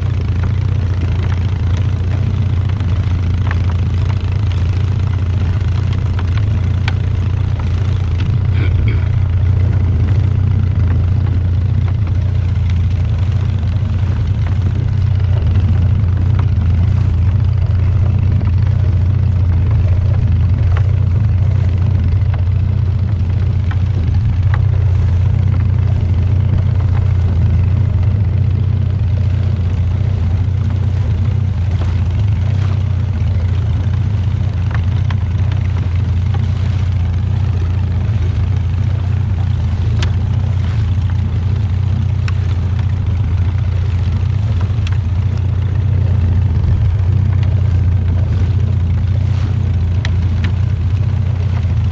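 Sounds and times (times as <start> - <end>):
boat engine humming: 0.0 - 51.9.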